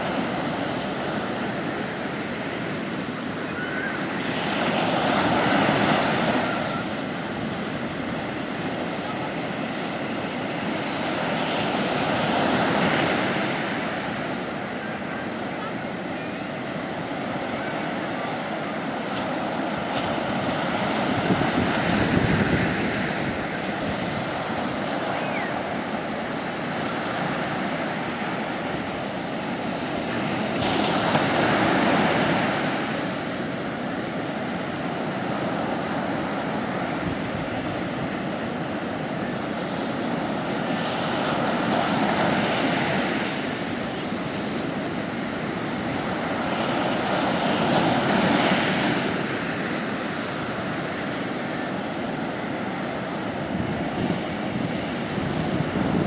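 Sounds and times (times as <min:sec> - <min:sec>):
sea waves breaking on beach: 0:00.0 - 0:56.0.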